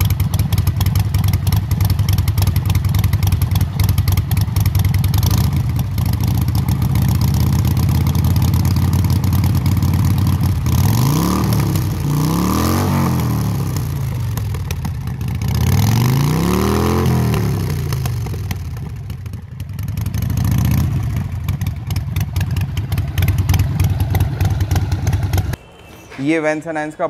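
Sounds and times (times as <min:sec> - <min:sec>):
motorcycle engine revving and idling: 0:00.0 - 0:25.6.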